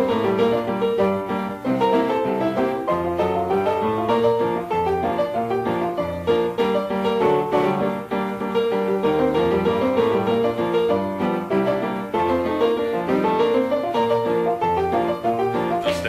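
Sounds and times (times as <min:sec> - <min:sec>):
piano piece: 0:00.0 - 0:16.0.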